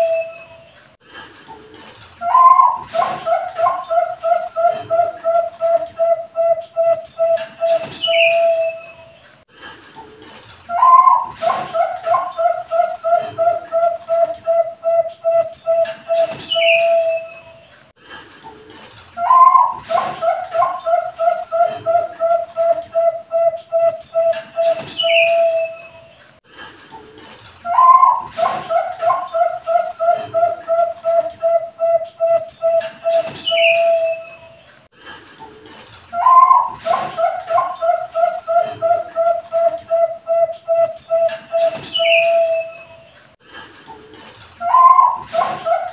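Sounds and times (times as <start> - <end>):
dove cooing: 0.0 - 0.8, 2.2 - 9.3, 10.7 - 17.7, 19.2 - 26.2, 27.6 - 34.6, 35.4 - 43.1, 43.9 - 45.9.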